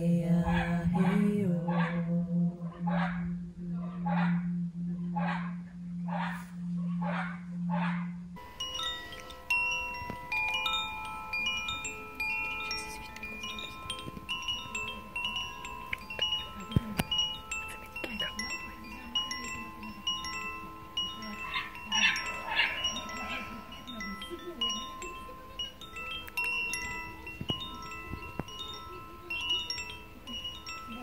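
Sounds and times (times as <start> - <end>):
singing bowl humming: 0.0 - 31.0
bamboo chime ringing: 4.5 - 31.0.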